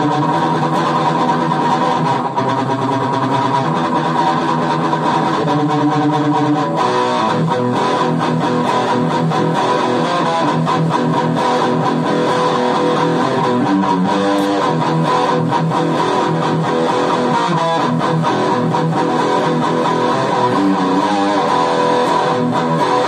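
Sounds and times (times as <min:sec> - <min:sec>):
electric guitar metal riff: 0:00.0 - 0:23.0.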